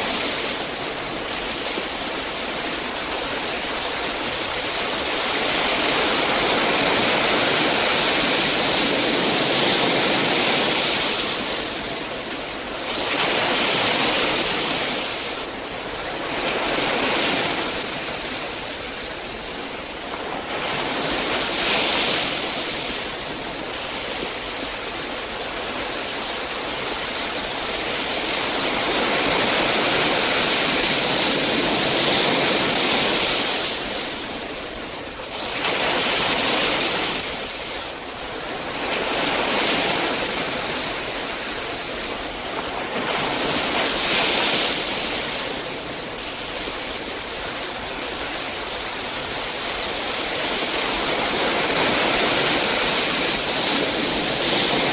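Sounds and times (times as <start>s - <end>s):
ocean waves breaking: 0.0s - 54.9s
wind: 0.0s - 54.9s.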